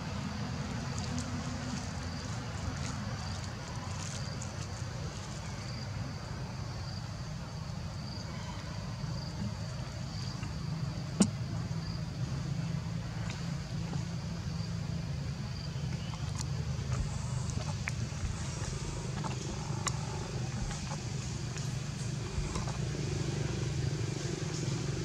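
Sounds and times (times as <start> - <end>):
steady low rumble: 0.0 - 8.2, 10.9 - 25.0
high insect-like chirp: 0.0 - 25.0.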